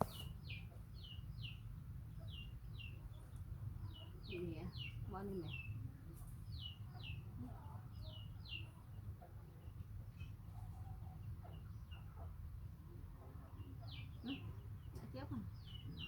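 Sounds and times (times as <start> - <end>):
small bird chirping: 0.0 - 12.4, 13.3 - 16.0.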